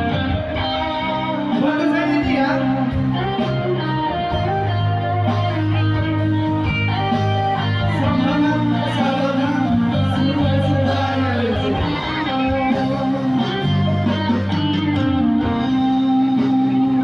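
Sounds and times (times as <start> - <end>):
bass line: 0.0 - 17.0
electric guitar melody: 0.0 - 17.0.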